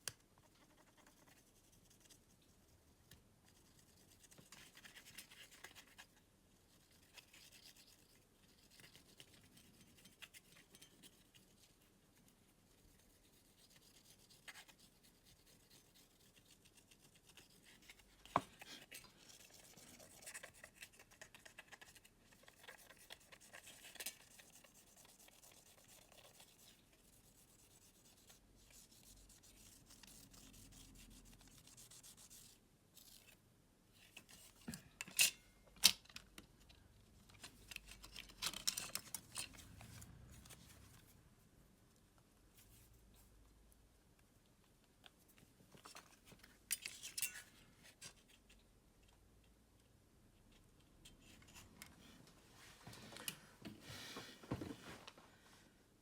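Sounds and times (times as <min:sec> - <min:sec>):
rubbing and scratching of small parts: 0:00.0 - 0:53.4.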